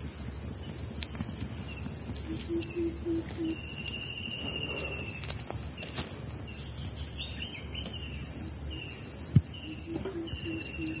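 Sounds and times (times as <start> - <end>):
insects chorus: 0.0 - 11.0
trilled insect calls: 0.0 - 11.0.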